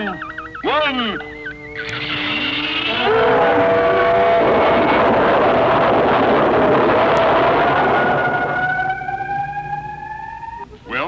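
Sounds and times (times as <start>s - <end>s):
rocket engine roar: 0.0s - 10.8s
rising tones: 0.0s - 10.9s.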